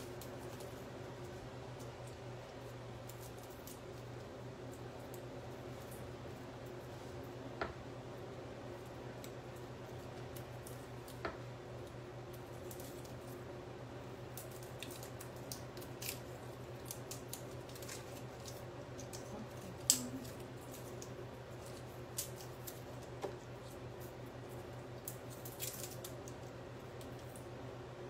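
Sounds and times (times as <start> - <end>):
garlic cloves clicking and tapping: 0.0 - 13.4, 14.0 - 27.6
steady low hum: 0.0 - 28.0.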